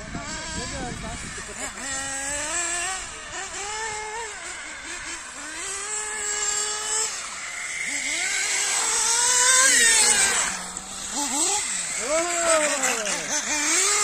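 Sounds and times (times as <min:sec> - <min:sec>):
model car motor running: 0:00.0 - 0:14.0.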